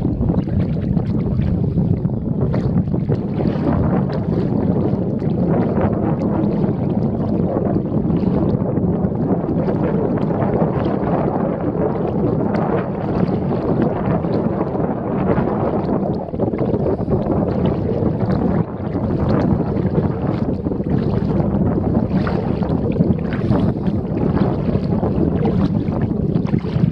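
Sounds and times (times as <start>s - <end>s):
moving river water: 0.0s - 26.9s
short water splashes: 0.0s - 26.9s
wind noise on microphone: 0.0s - 26.9s.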